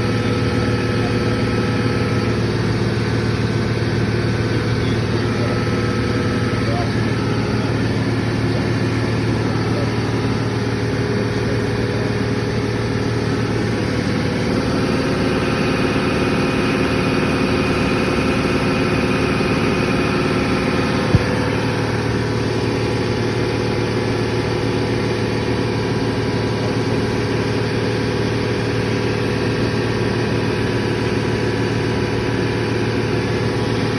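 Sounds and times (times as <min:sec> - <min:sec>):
compressor motor humming: 0:00.0 - 0:33.9.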